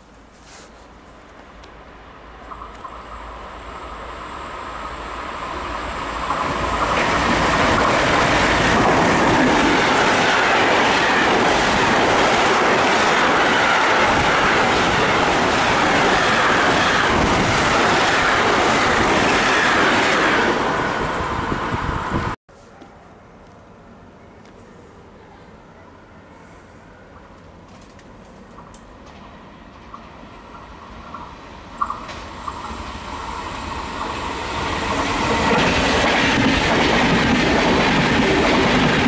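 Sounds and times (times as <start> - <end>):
freight train passing at speed: 1.0 - 22.4, 23.8 - 39.0.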